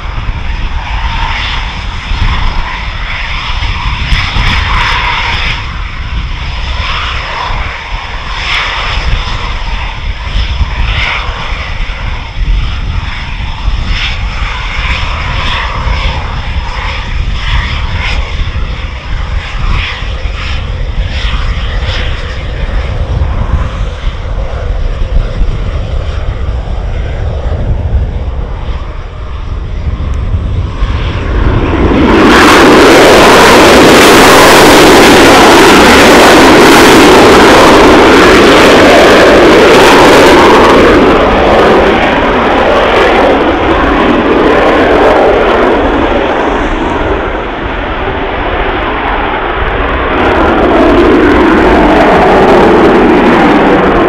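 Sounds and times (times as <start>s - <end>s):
jet engines at taxi power: 0.0s - 54.0s.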